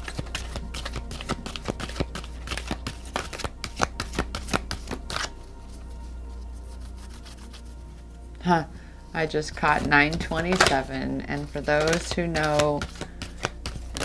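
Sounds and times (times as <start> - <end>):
cards being shuffled: 0.0 - 8.1, 9.5 - 14.0.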